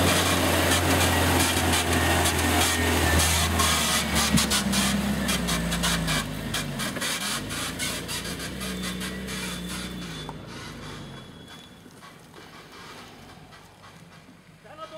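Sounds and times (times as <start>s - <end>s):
off-road vehicle engine climbing: 0.0s - 14.9s.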